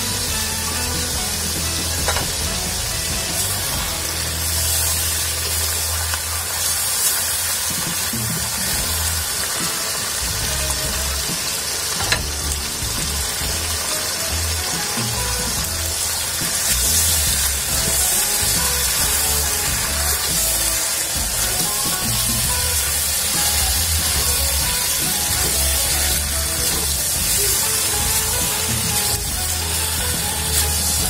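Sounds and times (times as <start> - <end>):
background music with bass: 0.0 - 31.0
food sizzling in oil: 0.0 - 31.0.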